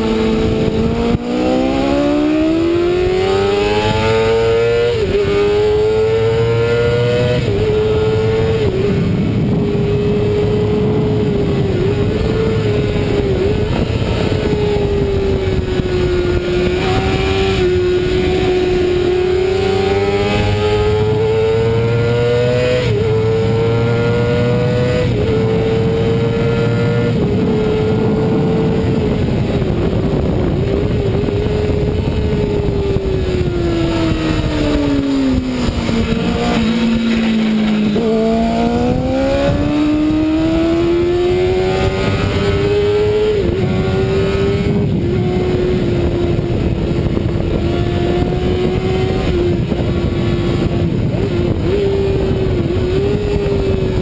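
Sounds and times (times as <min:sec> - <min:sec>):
racing motorcycle engine high revs: 0:00.0 - 0:54.0
wind rush: 0:00.0 - 0:54.0.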